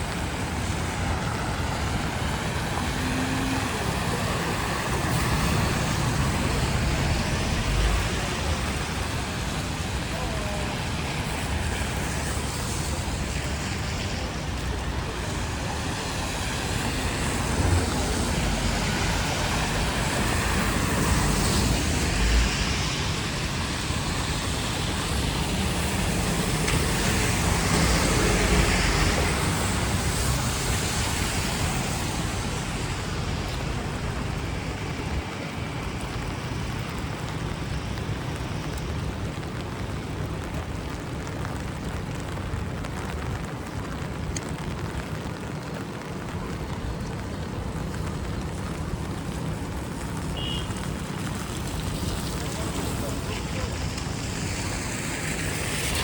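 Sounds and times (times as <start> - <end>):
tyres hissing on wet road: 0.0 - 56.0
vehicles passing on wet road: 0.0 - 56.0.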